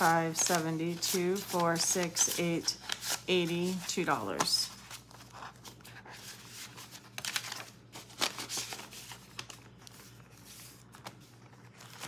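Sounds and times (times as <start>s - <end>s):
paper bills and plastic rustling: 0.0s - 12.0s.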